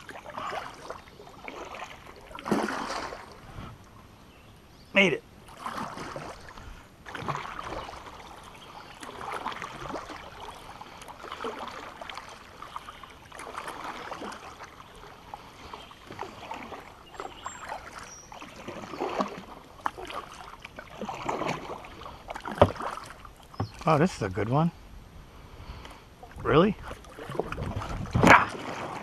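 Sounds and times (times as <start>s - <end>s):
paddle strokes swishing water: 0.0s - 4.0s, 5.4s - 24.5s, 25.4s - 29.0s.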